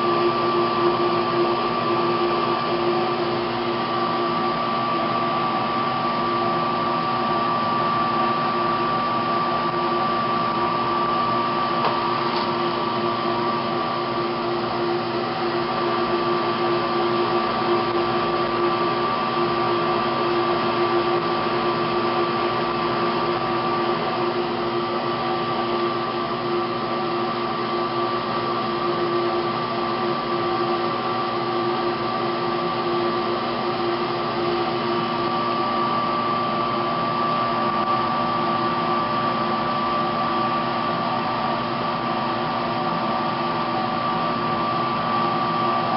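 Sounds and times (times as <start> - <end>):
electric fan running: 0.0 - 45.9.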